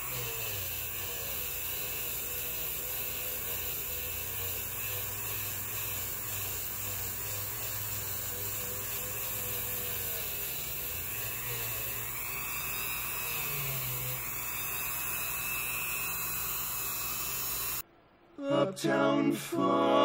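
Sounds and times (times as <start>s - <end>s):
rotary tool wire brush whine: 0.0s - 17.8s.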